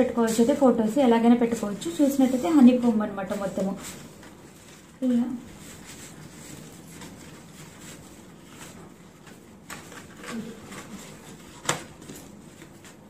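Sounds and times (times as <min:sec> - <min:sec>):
paper rustling: 0:01.4 - 0:13.0
cardstock being folded: 0:01.8 - 0:13.0.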